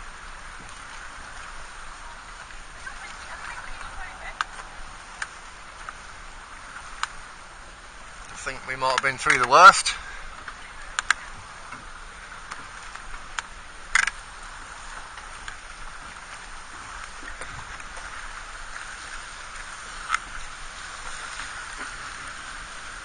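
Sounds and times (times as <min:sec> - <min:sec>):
water lapping around boat hull: 0:00.0 - 0:23.0.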